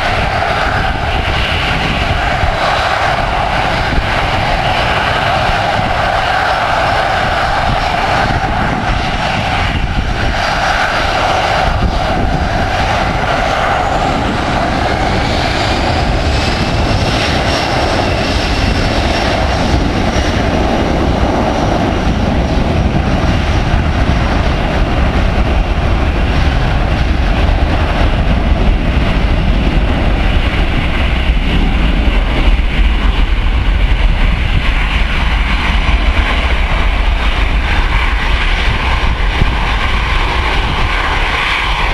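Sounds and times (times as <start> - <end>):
jet engines spooling up: 0.0 - 41.9.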